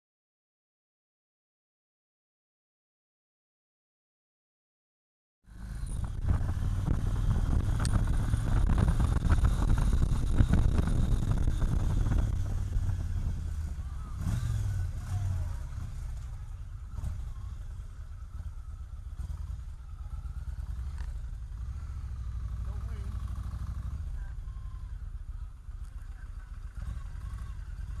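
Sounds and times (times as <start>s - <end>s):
motorcycle engine running: 5.5s - 28.0s.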